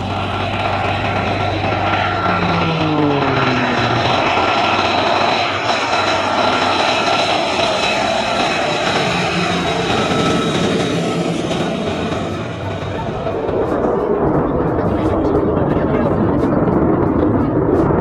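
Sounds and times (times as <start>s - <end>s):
jet engine rush and whine: 0.0s - 18.0s.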